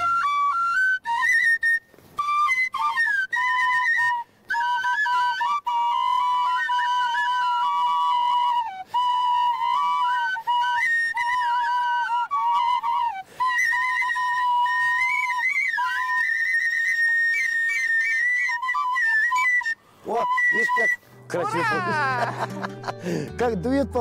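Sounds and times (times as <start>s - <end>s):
small folk flutes playing melody: 0.0s - 24.0s.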